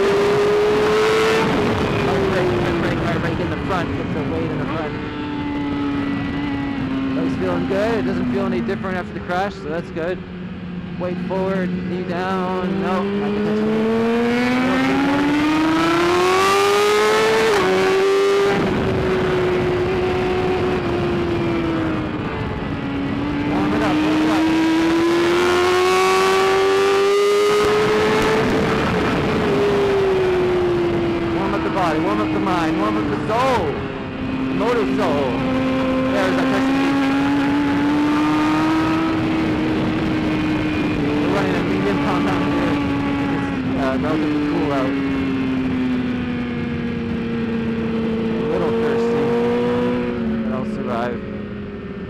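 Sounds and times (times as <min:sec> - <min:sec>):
motorcycle engine revving: 0:00.0 - 0:52.0
wind noise: 0:00.0 - 0:52.0.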